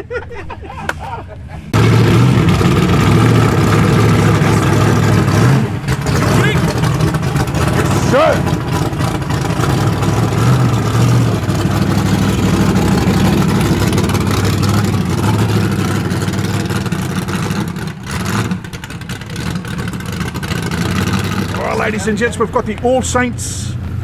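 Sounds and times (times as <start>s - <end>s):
car engine running at low revs: 1.5s - 24.0s.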